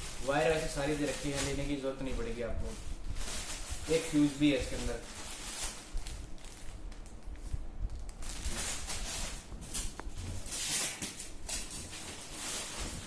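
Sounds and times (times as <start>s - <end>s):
packaging rustling and bumping: 0.0s - 13.0s.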